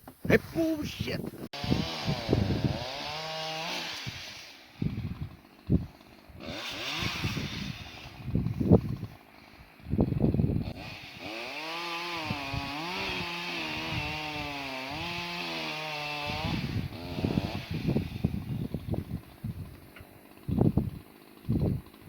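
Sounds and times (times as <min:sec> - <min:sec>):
chainsaw cutting wood: 0:01.3 - 0:22.0.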